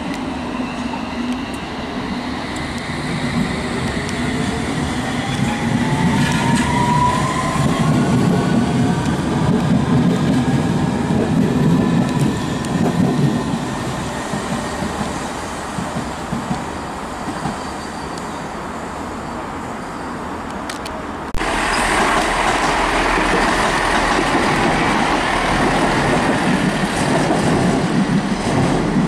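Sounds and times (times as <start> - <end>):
rumble of wheels on rail: 0.0 - 29.0.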